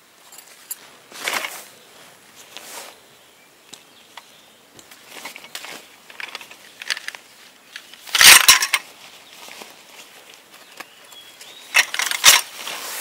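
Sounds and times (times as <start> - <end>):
fabric bags rustling: 0.4 - 3.0, 4.9 - 13.0.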